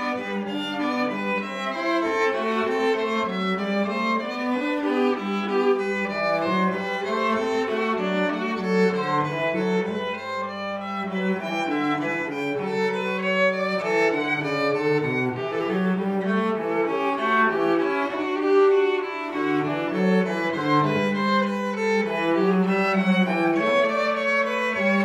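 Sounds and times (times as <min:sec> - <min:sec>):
instrumental music: 0:00.0 - 0:25.0.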